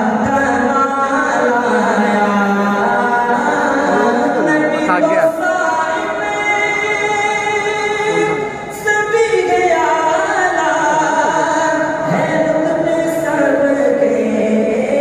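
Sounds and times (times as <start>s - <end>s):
man reciting melodic chant: 0.0s - 15.0s.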